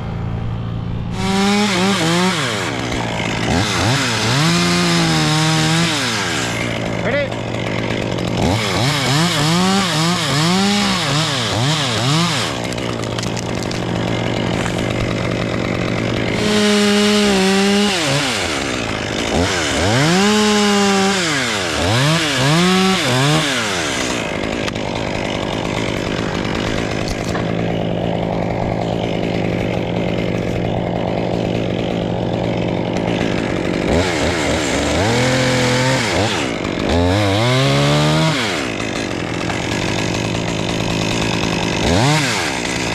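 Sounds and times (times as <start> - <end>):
chainsaw idling and revving: 0.0 - 42.9.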